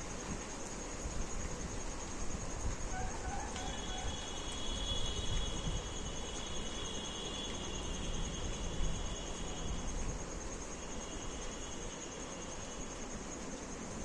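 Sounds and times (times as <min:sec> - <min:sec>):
high-pitched insect trill: 0:00.0 - 0:14.0
lower insect trill: 0:00.0 - 0:14.0
steady background hiss: 0:00.0 - 0:14.0.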